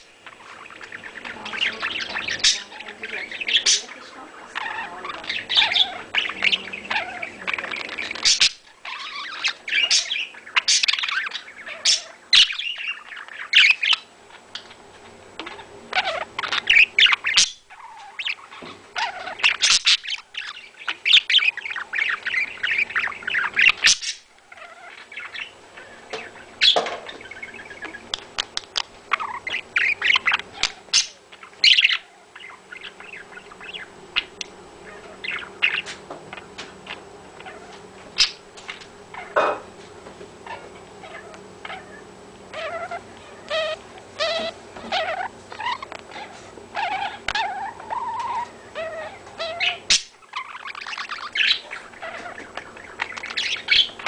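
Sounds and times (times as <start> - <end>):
budgerigars warbling and chattering: 0.0 - 54.0.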